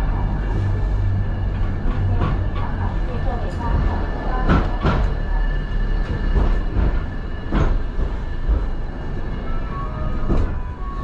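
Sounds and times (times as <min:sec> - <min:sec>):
wheels rumbling on rail: 0:00.0 - 0:11.0.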